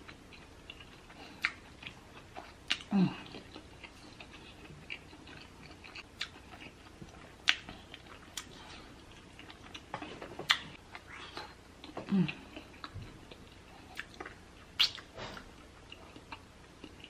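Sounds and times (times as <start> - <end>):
wet chewing and mouth sounds: 0.0 - 17.0.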